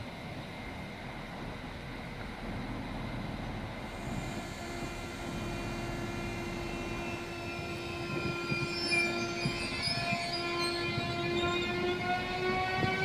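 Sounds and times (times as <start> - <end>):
electric train whine: 0.0 - 13.0
low train rumble: 0.0 - 13.0.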